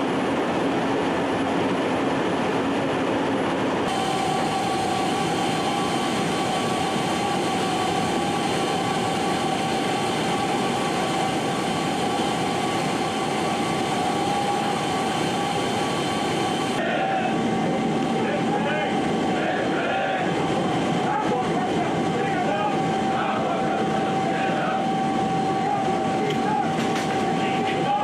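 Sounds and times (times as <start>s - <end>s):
aircraft engine drone: 0.0s - 28.0s
high whine: 1.6s - 28.0s.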